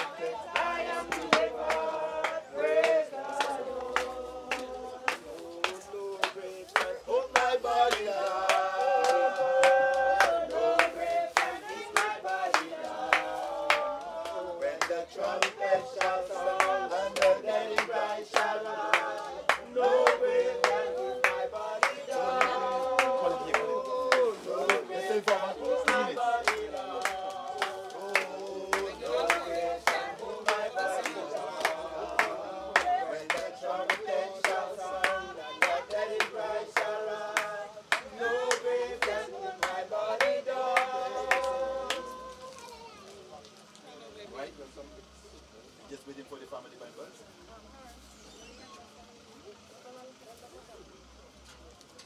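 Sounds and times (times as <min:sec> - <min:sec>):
group singing a hymn: 0:00.0 - 0:42.6
people clapping along: 0:00.0 - 0:43.5.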